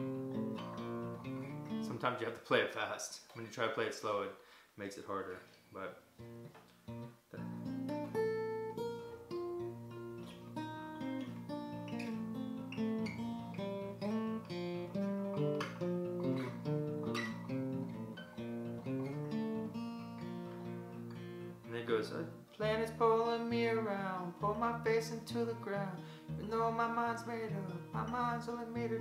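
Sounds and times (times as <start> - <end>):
fingerpicked acoustic guitar: 0.0 - 2.6, 5.2 - 29.0.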